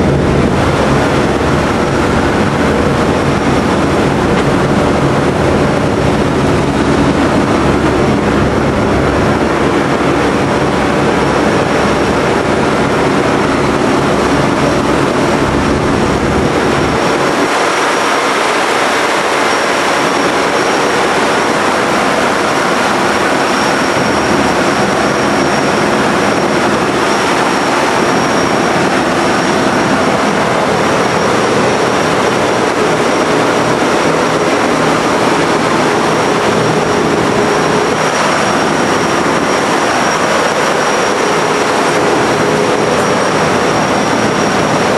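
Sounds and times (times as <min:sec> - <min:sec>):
aircraft engines droning: 0:00.0 - 0:44.9
thin high whine: 0:00.0 - 0:44.9.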